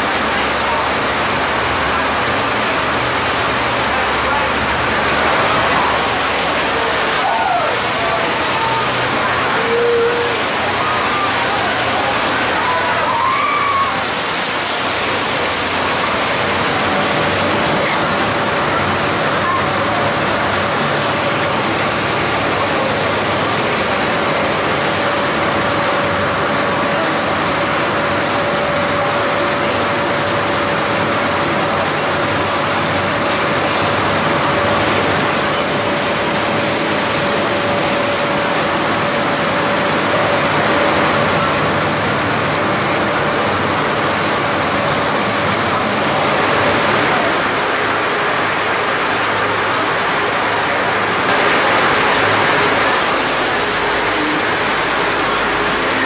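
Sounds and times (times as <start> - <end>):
boat engine humming: 0.0 - 56.0
waterfall roaring: 0.0 - 56.0.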